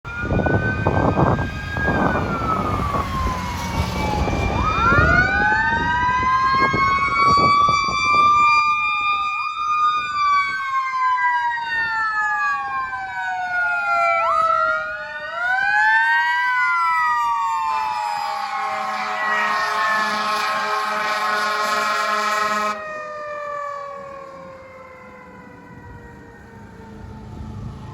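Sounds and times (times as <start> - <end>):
fire sirens wailing: 0.0 - 27.9.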